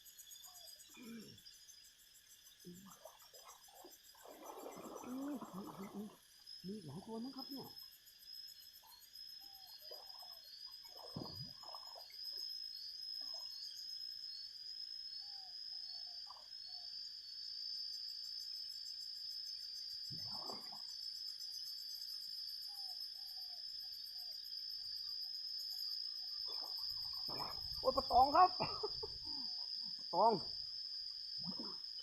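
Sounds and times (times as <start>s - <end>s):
insect quick repeated chirps: 0.0s - 32.0s
insects chorus: 0.0s - 32.0s.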